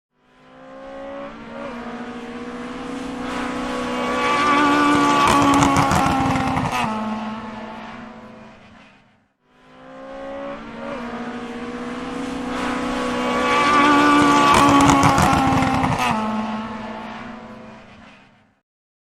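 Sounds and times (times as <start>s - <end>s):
race car engine passing by: 0.2s - 18.6s.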